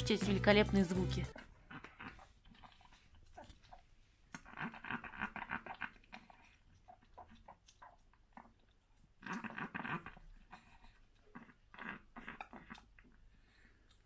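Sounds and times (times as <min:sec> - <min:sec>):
dog chewing wet food: 0:01.4 - 0:14.0.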